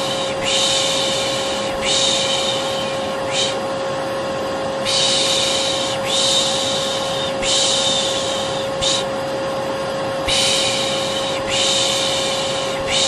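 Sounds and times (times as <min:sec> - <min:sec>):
person shushing: 0:00.0 - 0:03.6, 0:04.9 - 0:09.1, 0:10.3 - 0:13.0
vacuum cleaner humming: 0:00.0 - 0:13.0.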